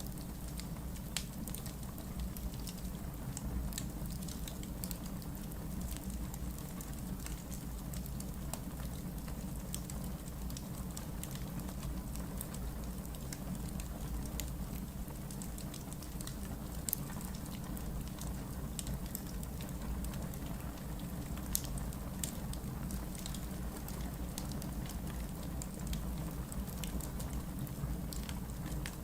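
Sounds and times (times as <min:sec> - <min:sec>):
logs crackling in fireplace: 0:00.0 - 0:29.0.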